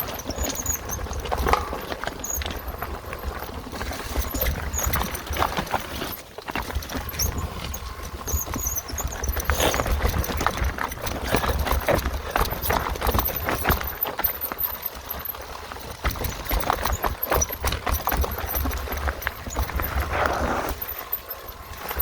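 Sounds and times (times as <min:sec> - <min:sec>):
wind rumbling on microphone: 0:00.0 - 0:14.2, 0:14.9 - 0:22.0
mountain bike rattling over rocks: 0:00.0 - 0:22.0.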